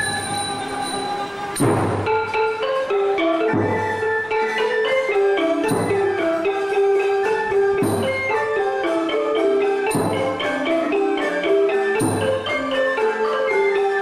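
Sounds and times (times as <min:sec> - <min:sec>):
xylophone melody: 0:00.0 - 0:14.0.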